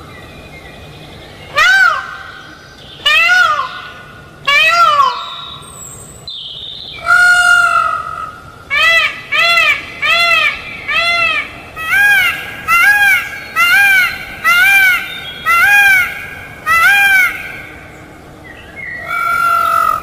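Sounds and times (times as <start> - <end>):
peafowl calling: 1.5 - 6.0, 7.0 - 20.0.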